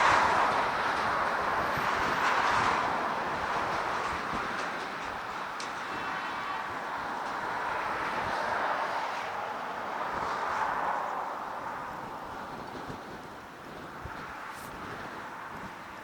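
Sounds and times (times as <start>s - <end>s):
train rolling along track: 0.0s - 16.0s.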